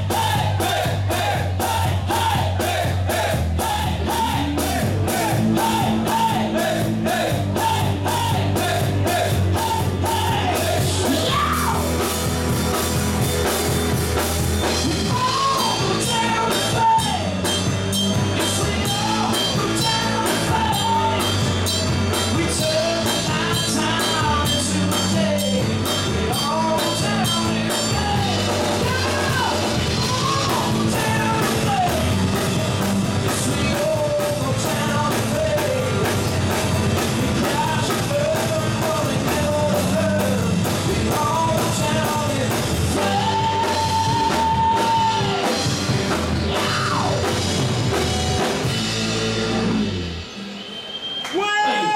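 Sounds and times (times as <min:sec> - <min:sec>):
man singing: 0:00.0 - 0:12.0, 0:14.6 - 0:45.7
electric bass: 0:00.0 - 0:50.5
electric guitars: 0:00.0 - 0:50.8
drum kit: 0:00.0 - 0:51.1.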